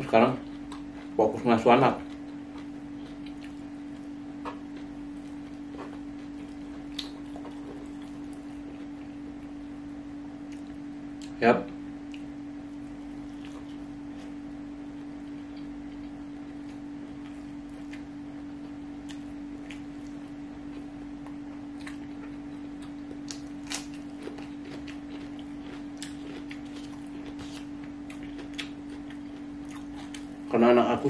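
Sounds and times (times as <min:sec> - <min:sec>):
steady low hum: 0:00.0 - 0:31.0
man chewing food: 0:00.4 - 0:01.2, 0:02.0 - 0:09.8, 0:10.4 - 0:11.4, 0:12.0 - 0:30.5.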